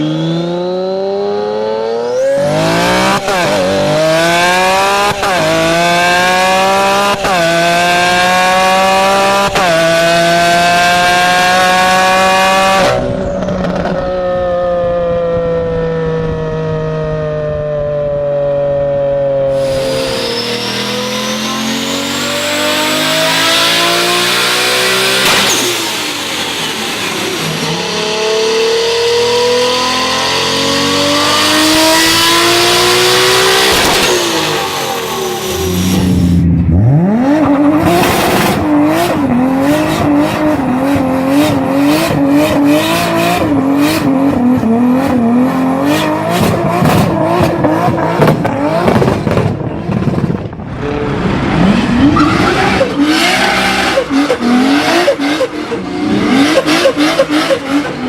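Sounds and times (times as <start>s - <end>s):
turbocharged car engine revving: 0.0s - 58.0s.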